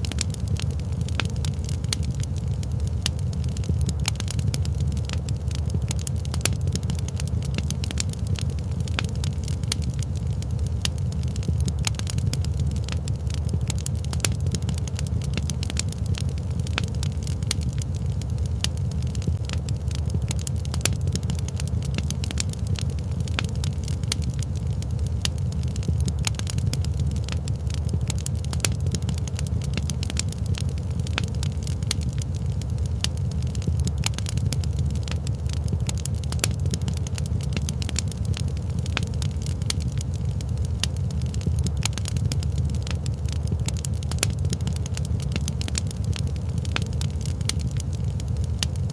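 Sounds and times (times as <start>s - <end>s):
steady low rumble: 0.0s - 48.9s
wood fire crackling: 0.0s - 48.9s.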